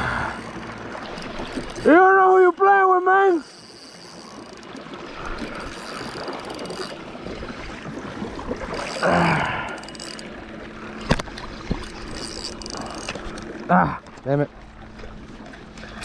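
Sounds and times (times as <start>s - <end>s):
fishing reel whirring and clicking: 0.0s - 14.2s.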